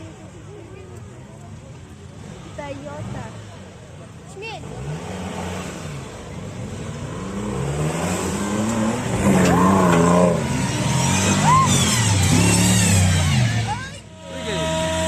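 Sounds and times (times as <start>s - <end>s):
off-road vehicle engine revving: 1.5s - 15.0s.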